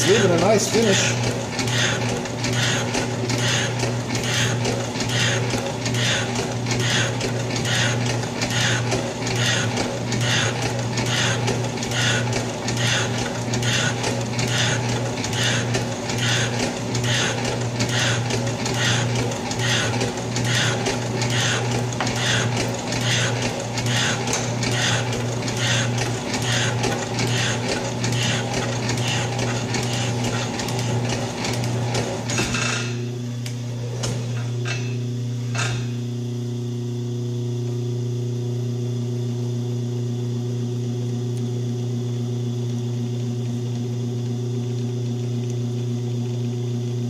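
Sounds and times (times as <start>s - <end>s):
motor hum: 0.0s - 47.0s.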